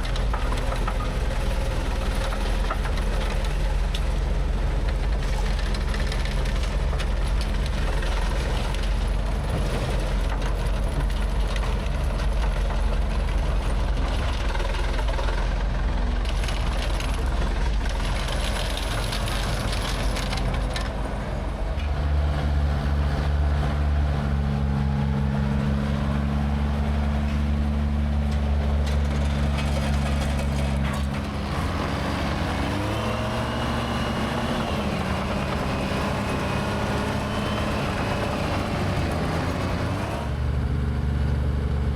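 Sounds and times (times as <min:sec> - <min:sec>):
heavy engine running: 0:00.0 - 0:41.9.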